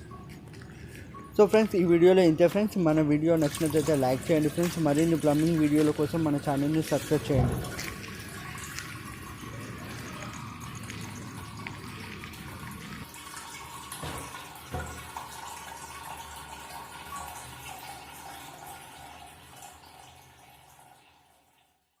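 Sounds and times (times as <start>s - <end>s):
water splashing in toilet tank: 3.3s - 21.1s.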